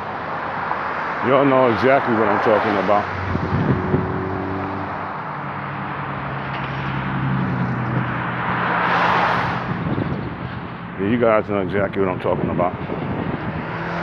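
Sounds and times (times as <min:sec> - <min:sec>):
car engines running: 0:00.0 - 0:14.0
car passing close: 0:00.3 - 0:10.8, 0:12.8 - 0:14.0.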